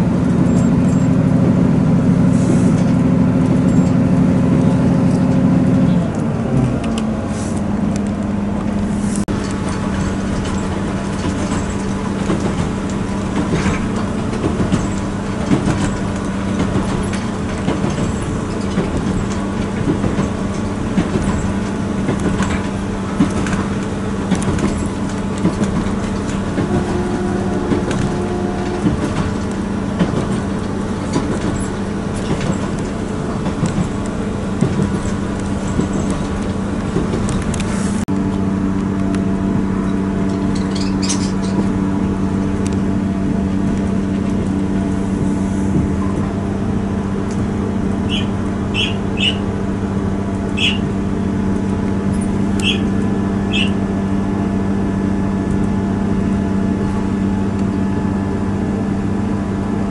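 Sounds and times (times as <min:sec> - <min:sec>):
higher engine tone: 0:00.0 - 0:16.5, 0:24.8 - 0:36.8, 0:37.8 - 0:59.9
diesel engine drone: 0:00.0 - 0:59.9
train rattles and clicks: 0:00.0 - 0:59.9.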